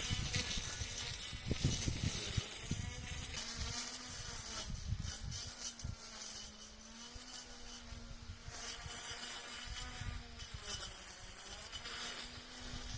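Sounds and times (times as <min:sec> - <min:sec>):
string trimmer buzzing: 0:00.0 - 0:12.9.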